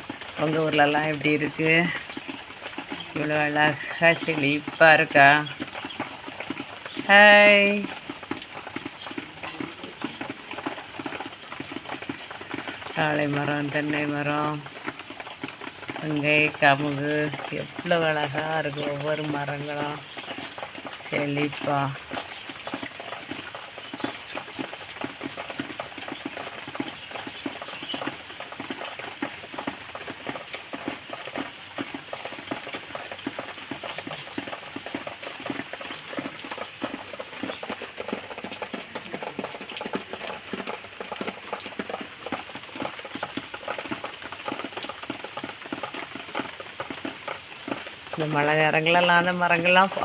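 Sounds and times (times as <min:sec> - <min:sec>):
rain pattering: 0:00.0 - 0:50.0.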